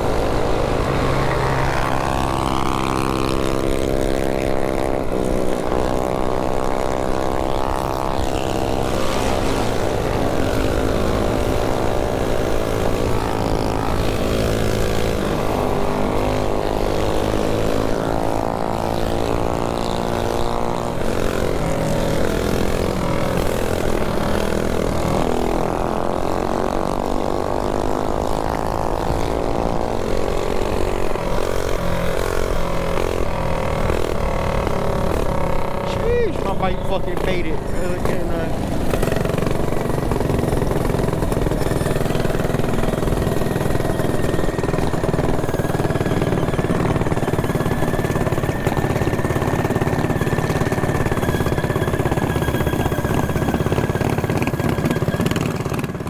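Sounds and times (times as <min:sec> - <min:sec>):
mini bike engines revving: 0:00.0 - 0:56.0.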